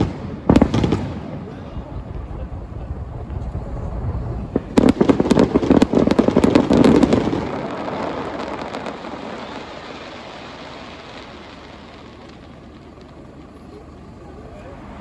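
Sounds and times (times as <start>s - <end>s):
fireworks bangs and crackles: 0.0s - 15.0s
fireworks low rumble: 0.0s - 15.0s.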